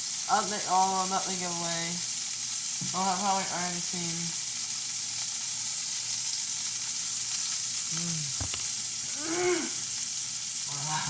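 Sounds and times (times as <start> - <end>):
patties sizzling in a pan: 0.0 - 11.0.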